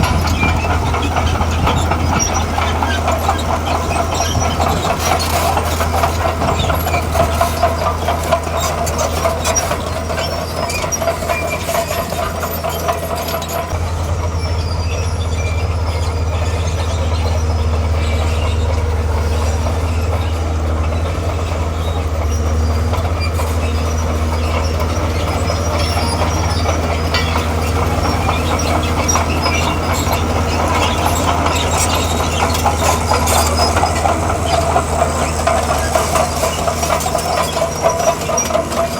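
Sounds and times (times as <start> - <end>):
heavy diesel engine running: 0.0 - 38.9
steel crawler tracks clanking: 0.0 - 38.9.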